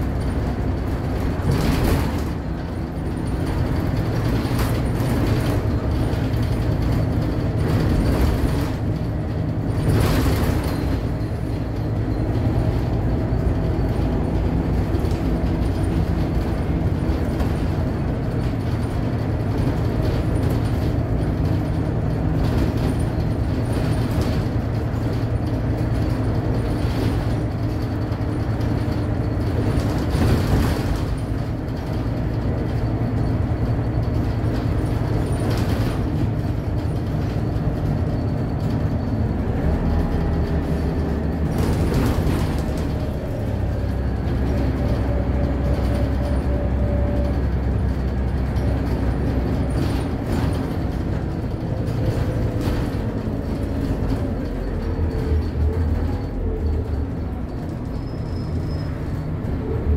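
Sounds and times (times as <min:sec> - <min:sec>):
bus body rattles and knocks: 0:00.0 - 0:59.9
bus engine running: 0:00.0 - 0:59.9.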